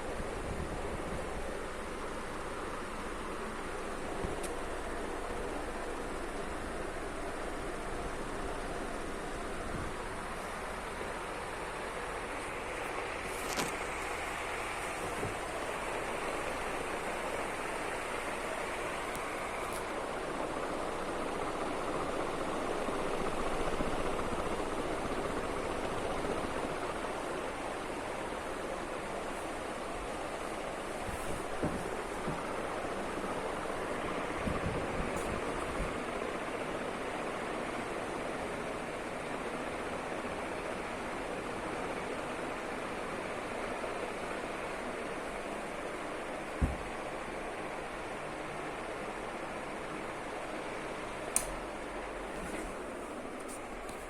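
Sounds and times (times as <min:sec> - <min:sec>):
ceiling fan air rush: 0:00.0 - 0:54.0.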